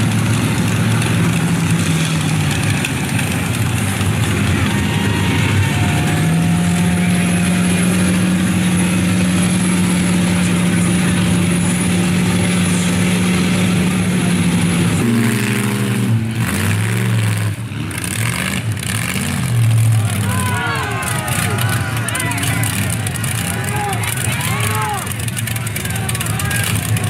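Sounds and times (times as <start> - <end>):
wheels spinning through mud: 0.0 - 13.6, 15.6 - 27.0
truck engine revving: 0.0 - 27.0.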